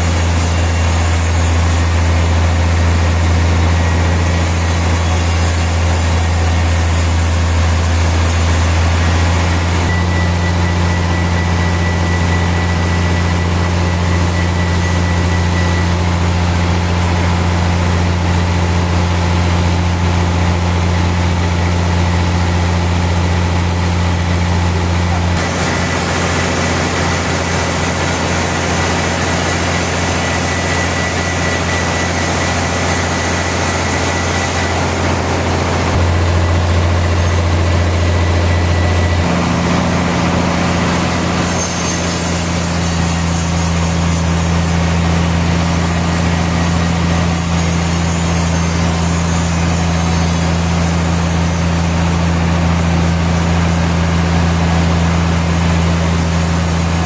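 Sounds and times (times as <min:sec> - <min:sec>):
sawmill machinery humming: 0:00.0 - 0:57.0
thin high whine: 0:00.0 - 0:57.0.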